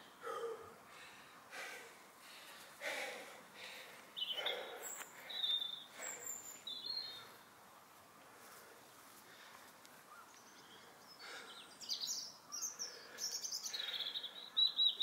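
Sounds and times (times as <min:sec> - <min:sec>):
birds chirping: 0:00.0 - 0:07.6, 0:08.9 - 0:15.0
faint background hiss: 0:00.0 - 0:15.0.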